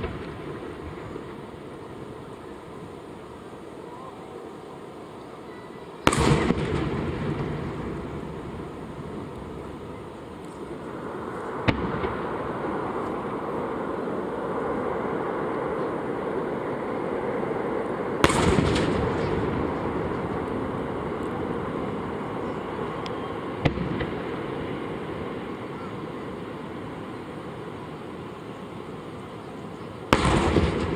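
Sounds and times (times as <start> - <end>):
distant fireworks bursting: 0.0 - 3.6, 5.8 - 30.9
background noise: 0.0 - 30.9.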